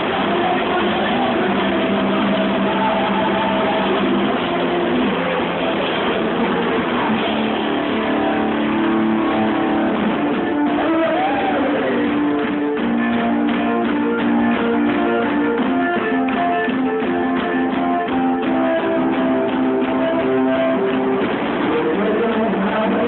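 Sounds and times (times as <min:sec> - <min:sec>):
guitars: 0:00.0 - 0:23.0
live band playing: 0:00.0 - 0:23.0.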